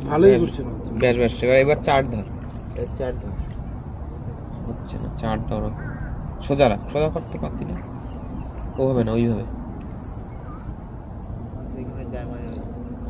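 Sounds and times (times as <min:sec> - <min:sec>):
insect chorus droning: 0:00.0 - 0:13.0
wind: 0:00.0 - 0:13.0.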